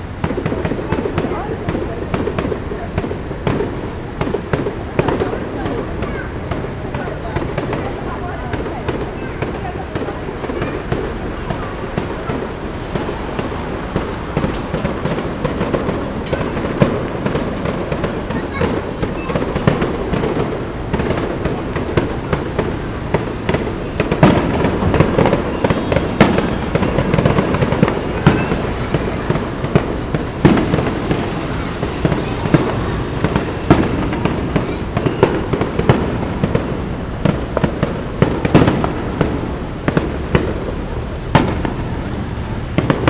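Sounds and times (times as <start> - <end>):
fireworks shells bursting: 0.0 - 43.0.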